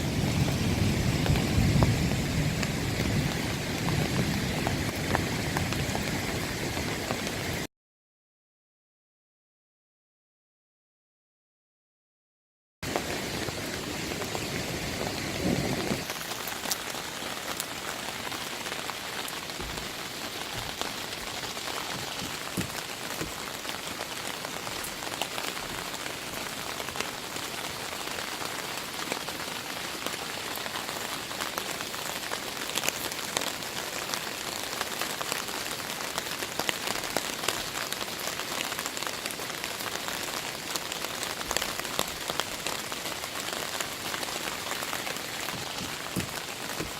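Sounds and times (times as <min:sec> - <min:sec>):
heavy rain falling: 0:00.0 - 0:07.7, 0:12.8 - 0:46.9.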